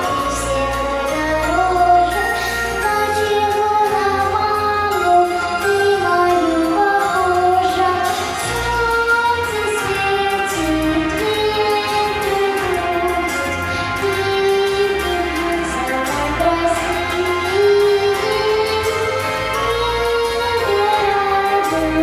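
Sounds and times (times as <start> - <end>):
instrumental backing track: 0.0 - 22.0.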